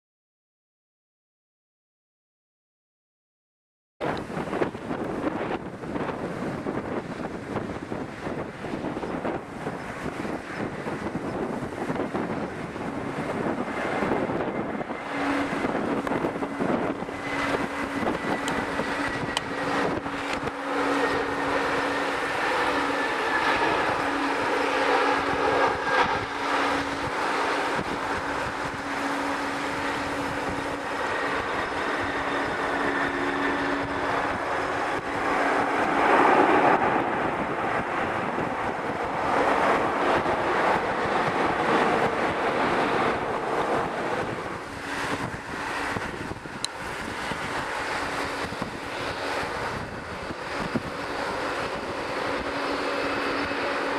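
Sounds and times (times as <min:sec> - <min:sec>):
jet airliner engines running: 0:04.0 - 0:53.9
wind buffeting microphone: 0:04.0 - 0:53.9.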